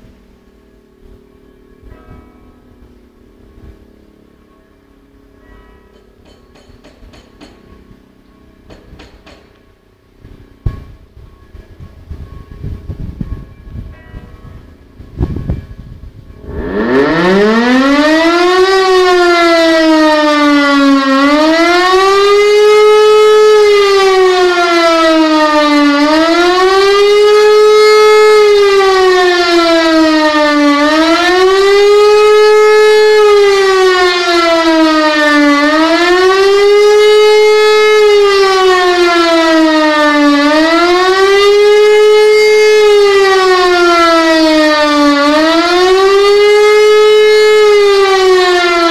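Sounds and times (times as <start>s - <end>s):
civil defence siren wailing: 0.0s - 48.9s.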